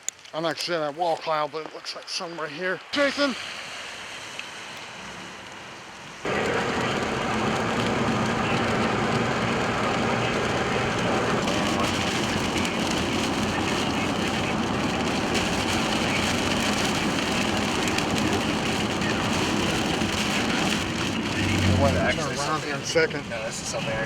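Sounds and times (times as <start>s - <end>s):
car road and wind rush: 2.9s - 24.0s.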